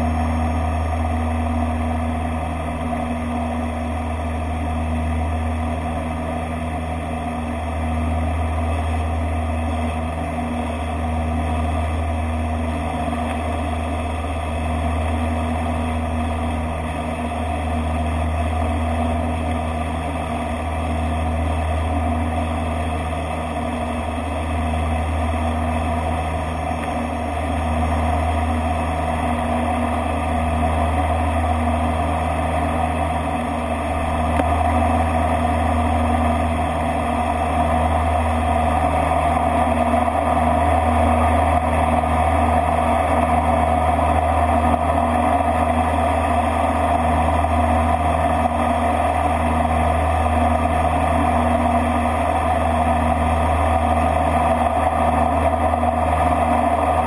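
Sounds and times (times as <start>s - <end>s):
turboprop engines droning: 0.0s - 57.0s.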